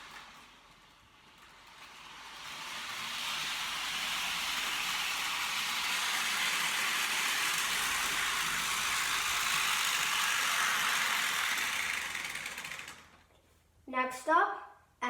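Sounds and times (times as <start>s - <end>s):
model train whirring on track: 0.0s - 13.3s.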